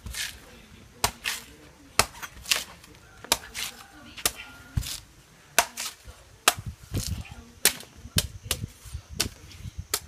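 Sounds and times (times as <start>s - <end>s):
machete chopping coconut husk: 0.0s - 10.0s.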